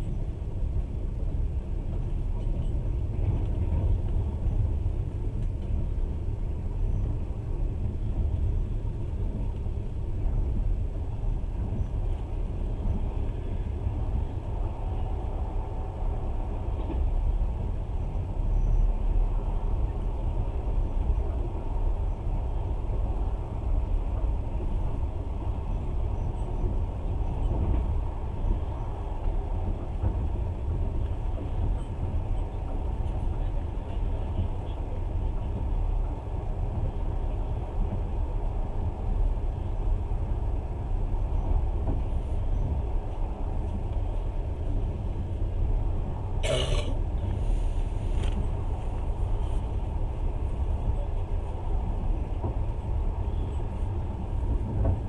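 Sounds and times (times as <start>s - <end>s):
train carriage rumble: 0.0s - 55.0s
train wheels on rails: 0.0s - 55.0s.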